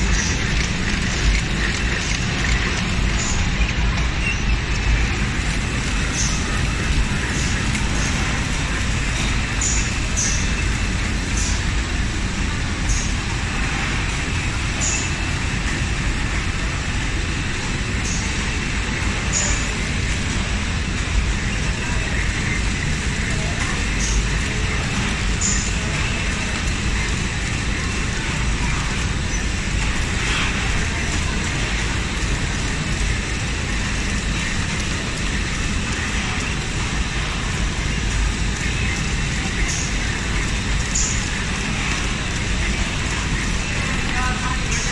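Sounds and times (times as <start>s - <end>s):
packing machine drone: 0.0s - 44.9s.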